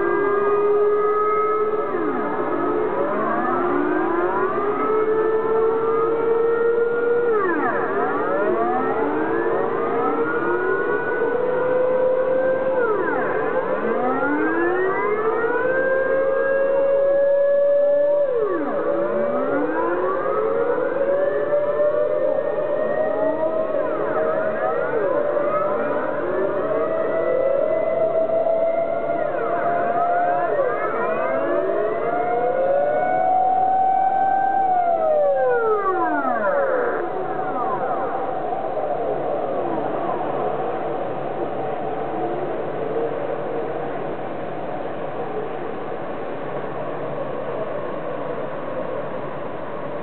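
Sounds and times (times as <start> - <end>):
air-raid sirens wailing: 0.0 - 44.5.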